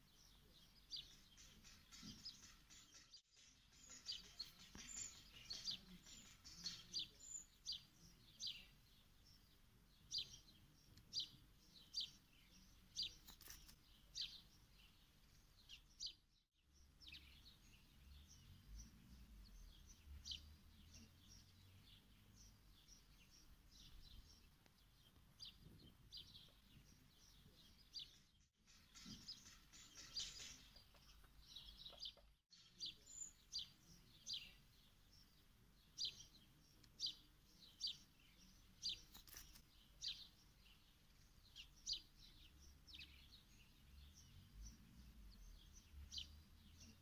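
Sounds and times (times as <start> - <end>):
faint outdoor background noise: 0.0 - 47.0
small bird chirping: 0.0 - 47.0.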